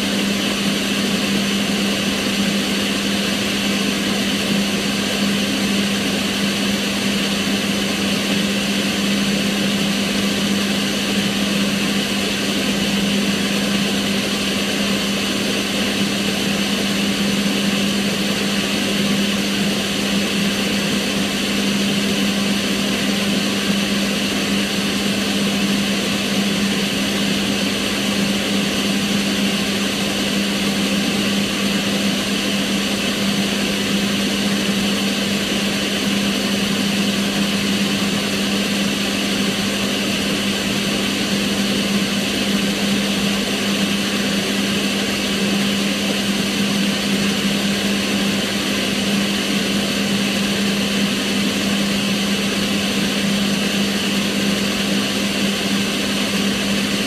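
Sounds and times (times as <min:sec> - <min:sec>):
extractor fan running: 0:00.0 - 0:57.0.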